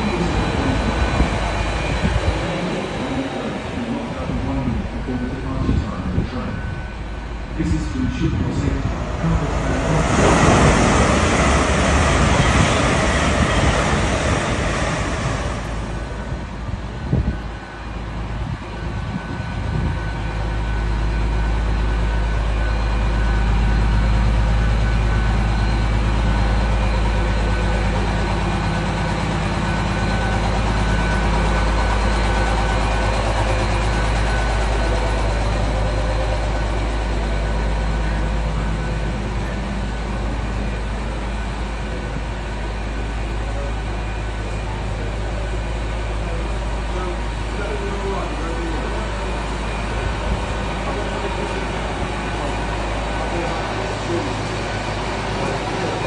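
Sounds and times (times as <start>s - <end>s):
steady whining tones: 0.0s - 56.0s
train power equipment humming: 0.0s - 56.0s.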